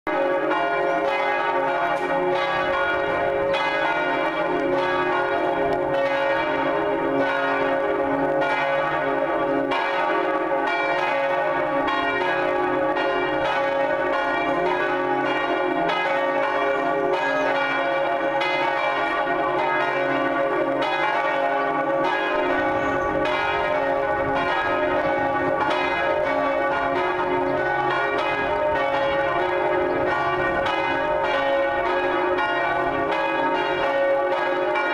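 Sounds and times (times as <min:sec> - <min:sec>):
church bells ringing: 0:00.1 - 0:34.9.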